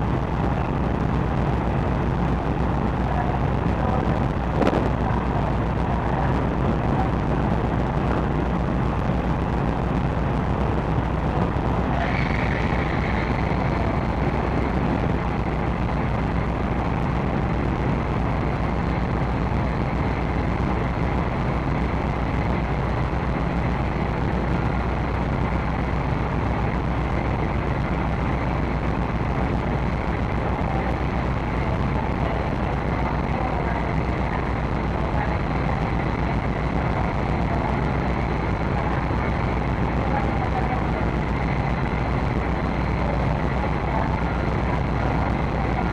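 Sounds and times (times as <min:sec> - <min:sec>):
faint high whine: 0:00.0 - 0:45.9
ship engines humming: 0:00.0 - 0:45.9.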